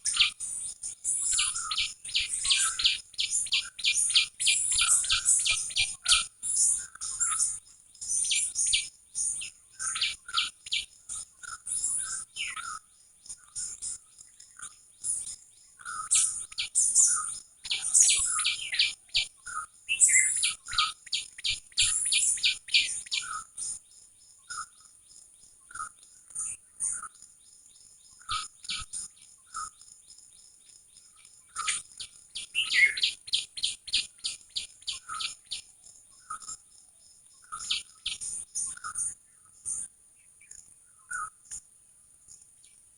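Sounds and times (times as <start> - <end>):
small birds chirping: 0.0 - 41.6, 42.2 - 42.9.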